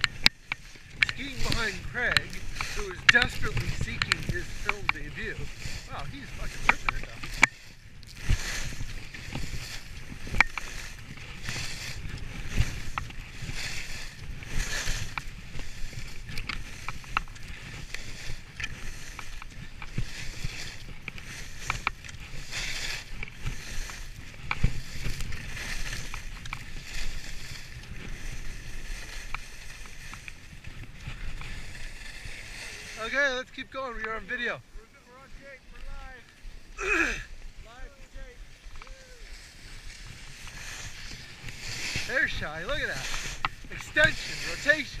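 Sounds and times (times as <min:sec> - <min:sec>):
skis swishing on snow: 0:00.0 - 0:45.0
wind rumble on microphone: 0:00.0 - 0:45.0.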